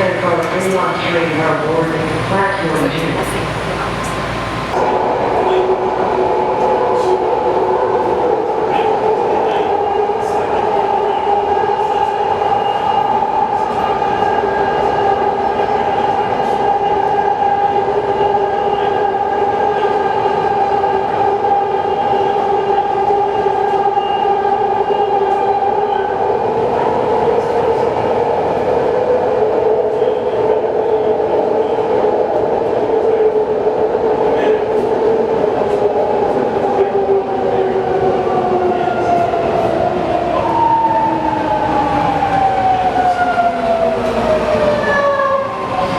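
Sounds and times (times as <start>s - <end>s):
train whine: 0.0s - 45.9s.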